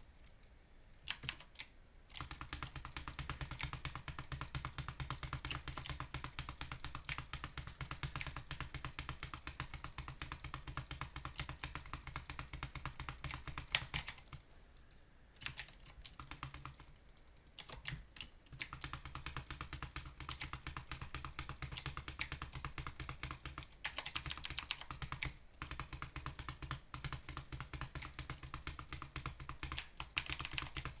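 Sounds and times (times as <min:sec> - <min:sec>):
keyboard typing clicks: 0:00.0 - 0:31.0.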